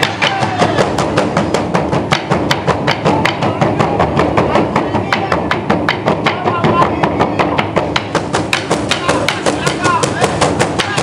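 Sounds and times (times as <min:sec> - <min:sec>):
large drums beaten with sticks: 0:00.0 - 0:11.0.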